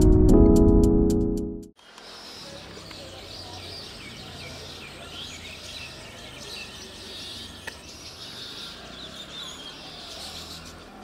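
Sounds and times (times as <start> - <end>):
small birds chirping: 1.8 - 11.0.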